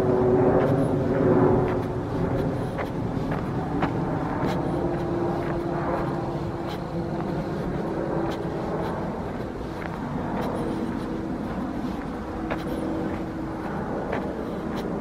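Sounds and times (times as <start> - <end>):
distant engine rumble: 0.0 - 15.0
faint hum: 0.0 - 15.0.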